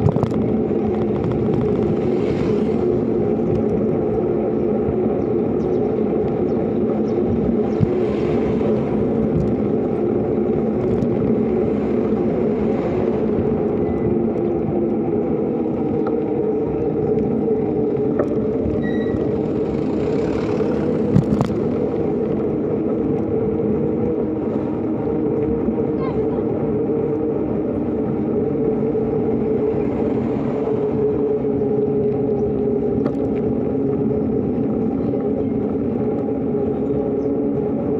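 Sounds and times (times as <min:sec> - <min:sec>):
road noise: 0:00.0 - 0:37.9
vehicle engine hum: 0:00.0 - 0:37.9.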